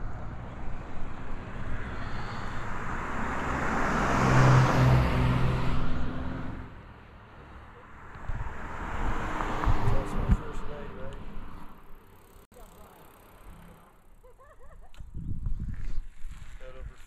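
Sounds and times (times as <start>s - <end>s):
car passing by: 0.0s - 14.1s.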